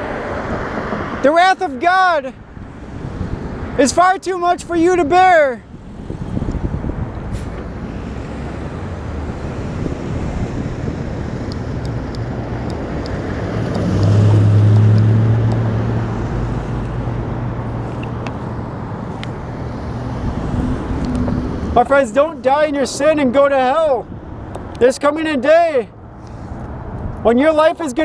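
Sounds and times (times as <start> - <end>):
road traffic: 0.0 - 28.0
truck engine droning: 0.9 - 24.6.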